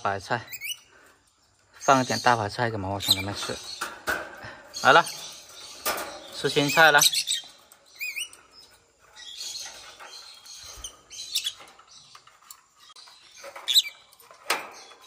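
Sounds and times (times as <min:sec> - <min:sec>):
lovebirds chirping: 0:00.0 - 0:15.0
birds nibbling and rustling: 0:00.4 - 0:15.0.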